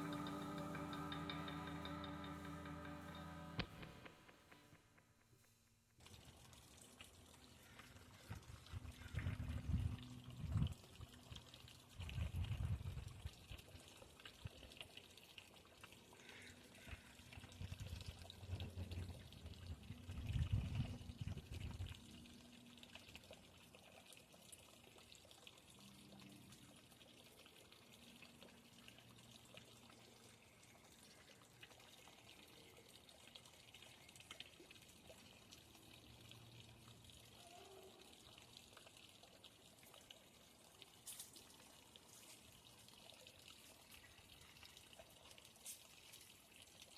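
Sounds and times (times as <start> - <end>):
water trickling: 6.0 - 46.9.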